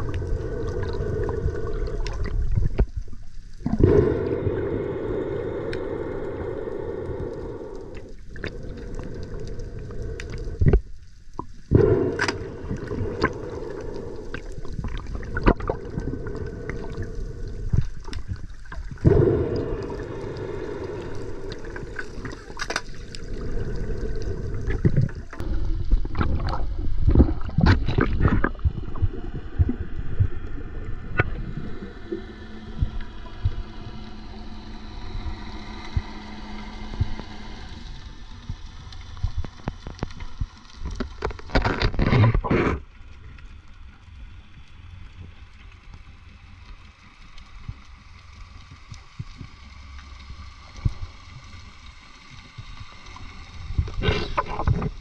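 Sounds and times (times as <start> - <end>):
underwater gurgling and bubbling: 0.0 - 43.7, 45.3 - 55.0
low steady hum: 0.0 - 55.0.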